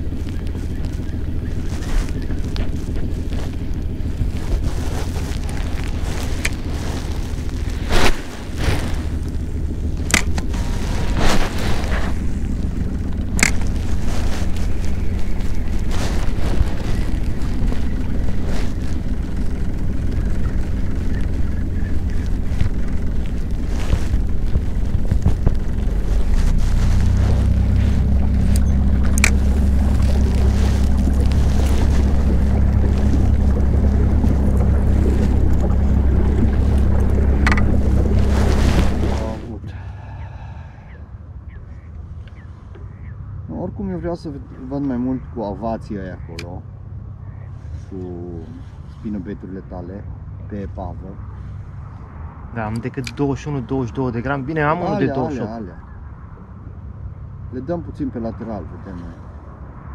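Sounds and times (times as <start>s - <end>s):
wind buffeting microphone: 0.0s - 49.1s
boat motor humming: 0.0s - 59.9s
steady low rumble: 0.0s - 59.9s.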